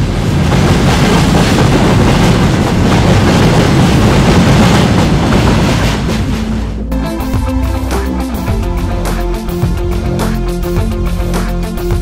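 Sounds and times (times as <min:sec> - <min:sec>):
freight wagons rumbling on rails: 0:00.0 - 0:11.2.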